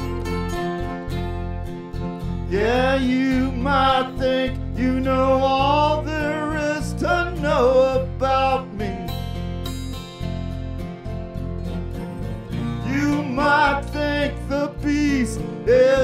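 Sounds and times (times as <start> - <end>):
bass guitar: 0.0 - 16.0
strummed acoustic guitar: 0.0 - 16.0.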